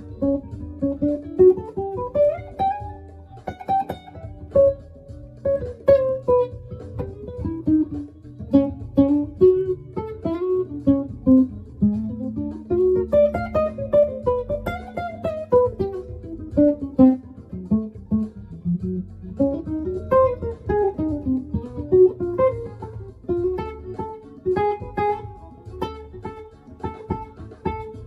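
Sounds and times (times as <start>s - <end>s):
backing track bass and chords: 0.0s - 28.0s
jazz guitar lines: 0.0s - 28.0s.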